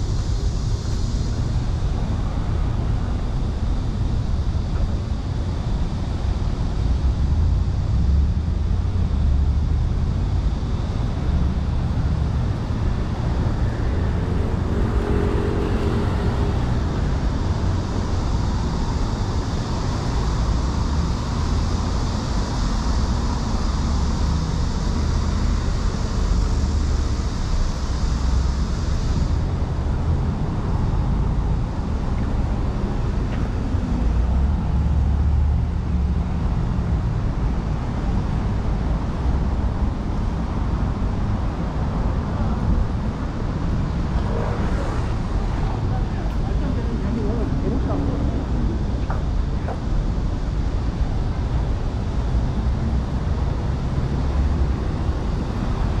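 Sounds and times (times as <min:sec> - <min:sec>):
cars passing on road: 0:00.0 - 0:56.0.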